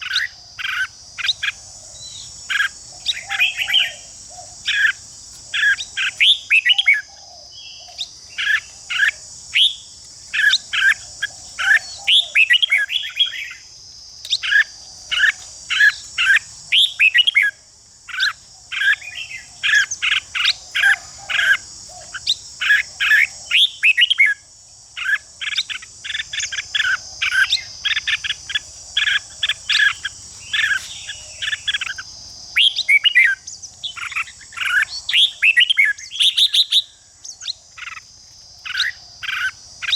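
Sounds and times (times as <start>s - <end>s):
bulbuls singing and chattering: 0.0s - 13.7s, 14.3s - 24.4s, 25.0s - 39.9s.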